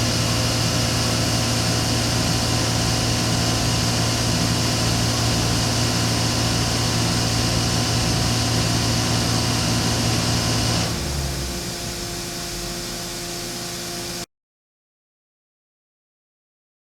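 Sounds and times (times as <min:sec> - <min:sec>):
machining center hum and hiss: 0:00.0 - 0:14.3.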